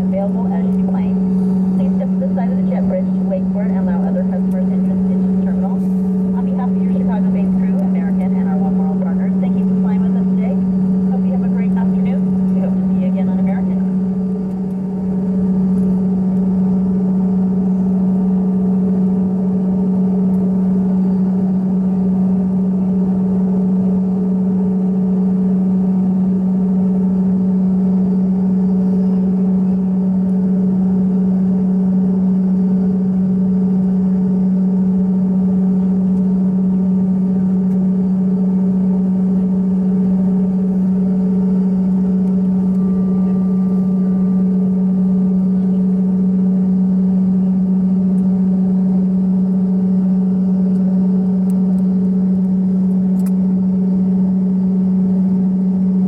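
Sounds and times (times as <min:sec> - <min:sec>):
jet engines humming in aircraft cabin: 0:00.0 - 0:56.0.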